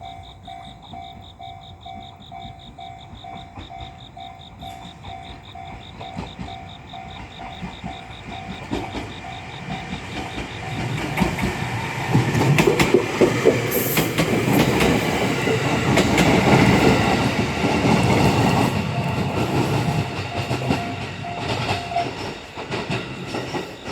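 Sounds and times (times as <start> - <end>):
level crossing warning bell: 0.0 - 11.7, 15.0 - 23.9
train wheels clattering over rail joints: 0.9 - 23.9.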